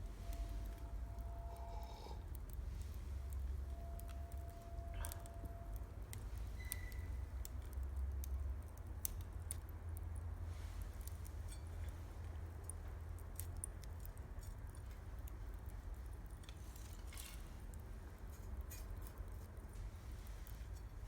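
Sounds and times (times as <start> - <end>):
low fire rumble: 0.0 - 21.0
campfire crackling and popping: 1.8 - 21.0.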